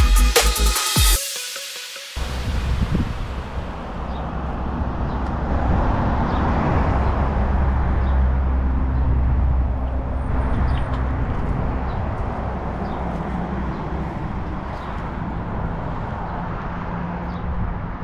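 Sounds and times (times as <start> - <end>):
vehicle engine passing by: 2.2 - 18.0.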